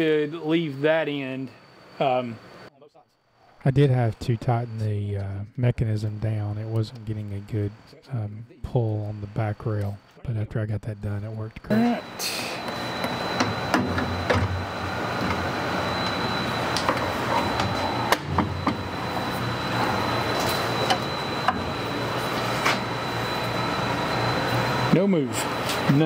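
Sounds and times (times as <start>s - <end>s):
faint high whine: 0.0s - 26.0s
hum of shop machinery: 0.0s - 26.0s.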